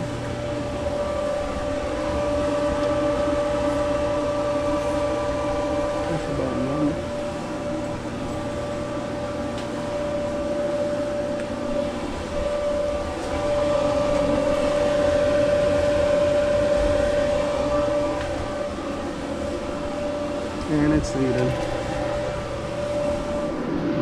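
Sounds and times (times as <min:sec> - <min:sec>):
clothes dryer running: 0:00.0 - 0:24.0.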